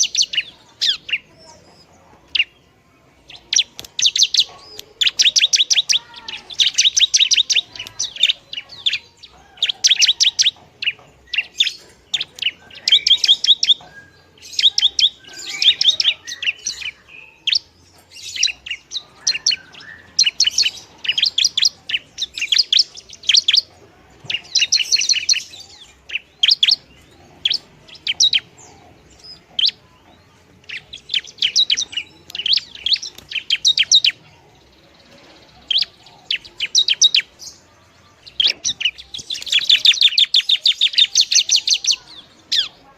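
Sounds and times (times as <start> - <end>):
bird singing sharp high chirps: 0.0 - 42.9.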